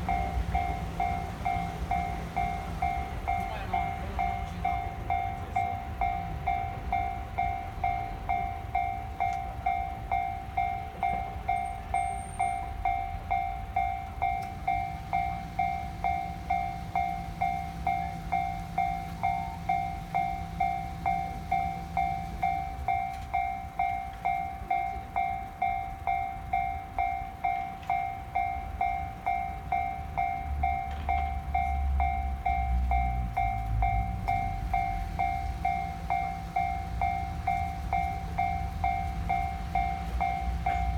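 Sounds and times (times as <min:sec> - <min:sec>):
level-crossing alarm bell ringing: 0:00.0 - 0:40.9
low rumble of trains: 0:00.0 - 0:40.9.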